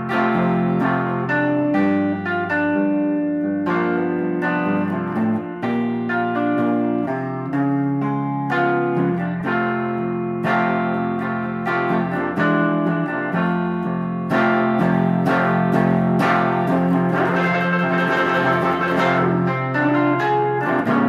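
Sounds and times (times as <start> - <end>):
electric guitar chords ringing: 0.0 - 21.0.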